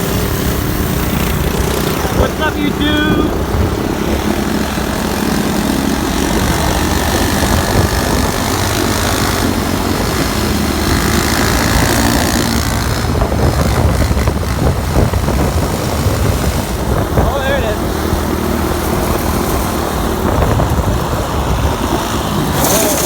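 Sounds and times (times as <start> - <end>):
vehicle engine running: 0.0 - 23.0
wind and road noise: 0.0 - 23.0.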